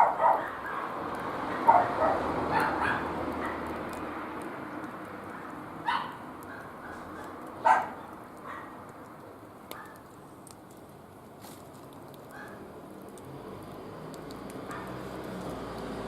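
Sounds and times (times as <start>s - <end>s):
wood fire crackling: 0.4s - 16.0s.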